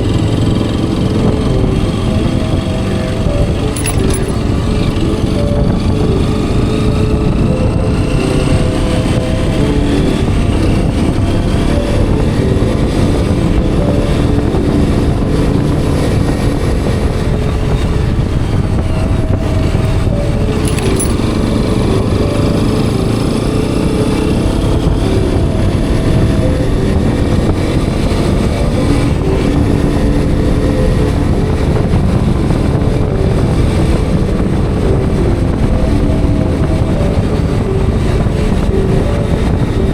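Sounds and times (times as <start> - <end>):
heavy wind noise: 0.0 - 39.9
road noise: 0.0 - 39.9.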